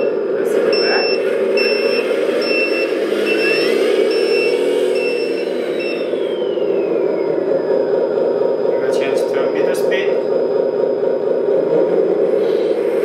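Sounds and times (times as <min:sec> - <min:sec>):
reversing beeper: 0:00.0 - 0:13.0
toy truck diesel engine sound: 0:00.0 - 0:13.0
whine: 0:00.0 - 0:13.0.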